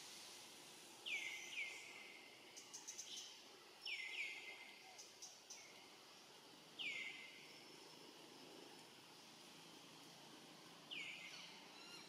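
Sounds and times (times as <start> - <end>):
insects hissing: 0.0 - 12.0.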